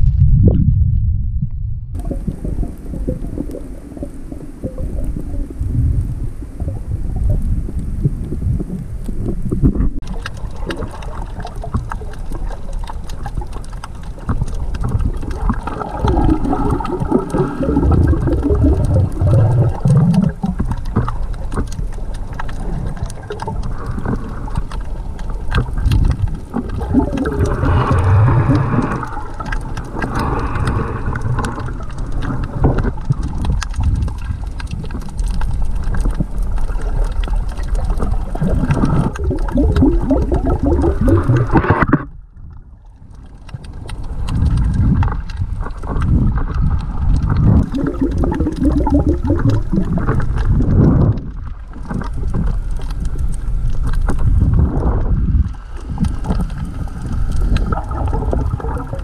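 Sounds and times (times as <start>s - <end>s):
underwater rumbling and gurgling: 0.0s - 59.0s
small underwater clicks: 2.0s - 59.0s.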